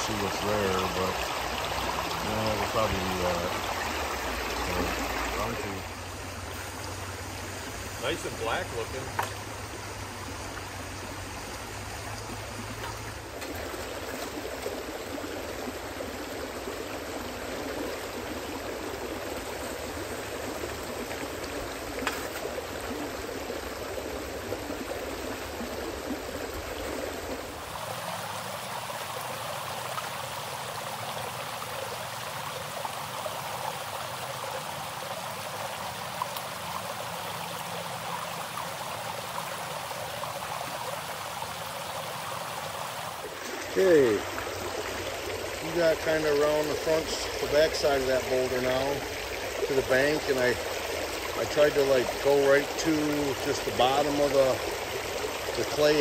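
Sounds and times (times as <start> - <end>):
creek water running over rocks: 0.0 - 56.0.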